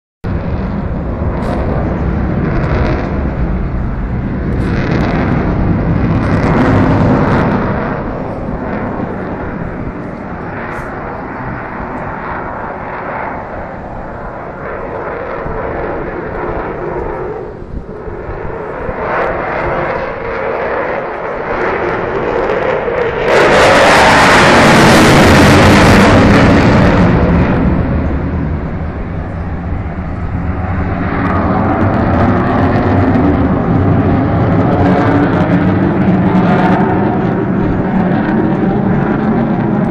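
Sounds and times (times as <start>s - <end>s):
fighter jet engine rumbling: 0.2s - 39.9s.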